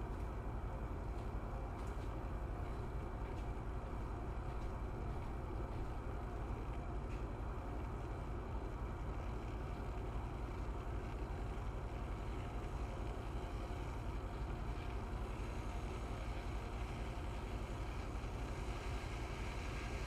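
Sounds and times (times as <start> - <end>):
electric kettle bubbling: 0.0 - 20.0.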